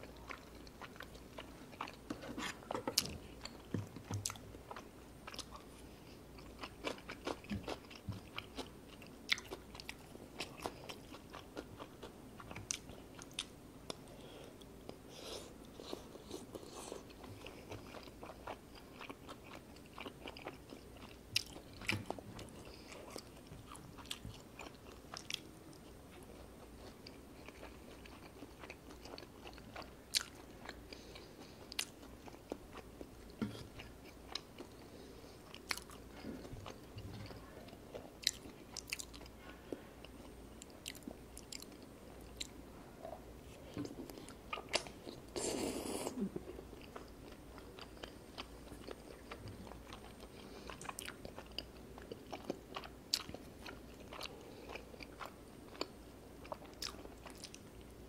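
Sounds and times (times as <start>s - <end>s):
chewing food: 0.0s - 15.0s, 15.6s - 58.0s.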